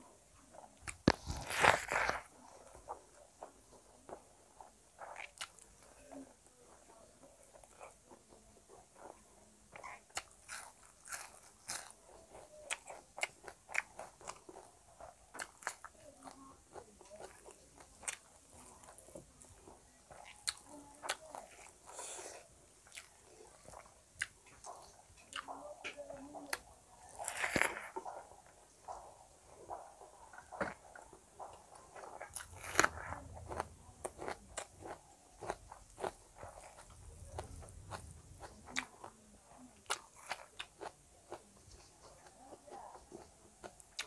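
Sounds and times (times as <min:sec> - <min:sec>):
mouth chewing food: 0:00.0 - 0:44.0.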